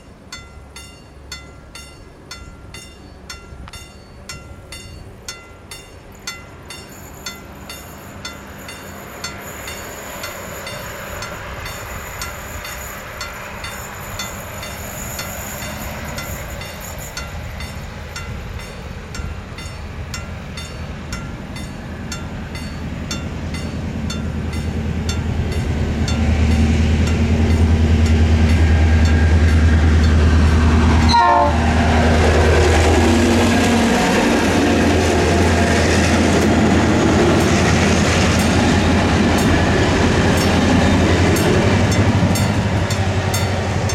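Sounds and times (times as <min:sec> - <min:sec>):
diesel locomotive engine drone: 0:00.0 - 0:43.9.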